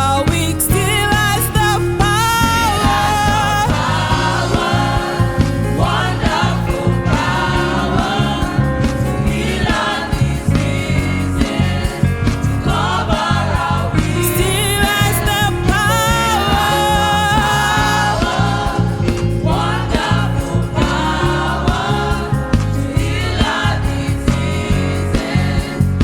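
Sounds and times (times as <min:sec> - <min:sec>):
bass and drum beat: 0:00.0 - 0:26.0
choir singing: 0:00.0 - 0:26.0.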